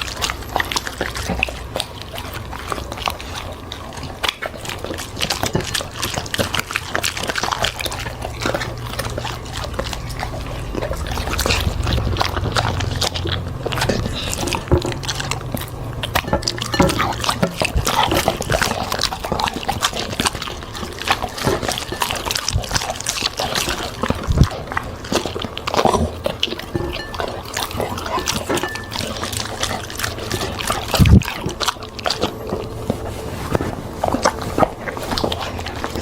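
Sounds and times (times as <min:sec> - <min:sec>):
dog chewing and slurping food: 0:00.0 - 0:36.0.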